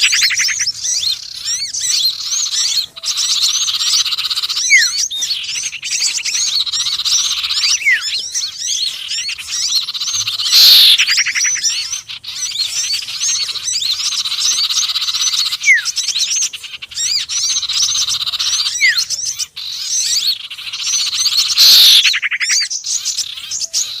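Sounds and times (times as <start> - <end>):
buzzy bird call: 0.0 - 24.0
songbirds chirping: 0.0 - 24.0.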